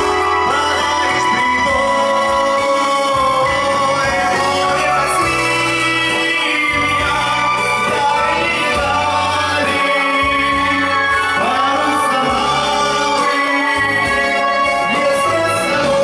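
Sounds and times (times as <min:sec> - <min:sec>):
man singing into a microphone: 0:00.0 - 0:16.0
recorded backing track: 0:00.0 - 0:16.0.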